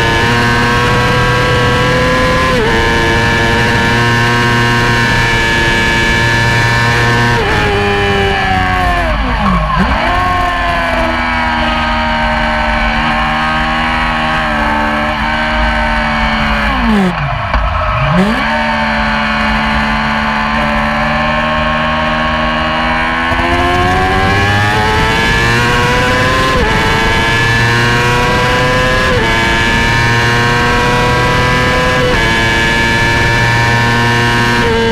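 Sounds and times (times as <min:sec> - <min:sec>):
racing motorcycle engine at high revs: 0:00.0 - 0:34.9.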